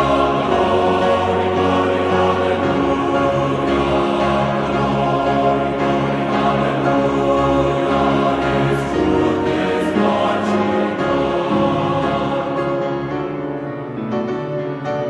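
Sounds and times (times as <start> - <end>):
choir singing held notes: 0.0 - 13.5.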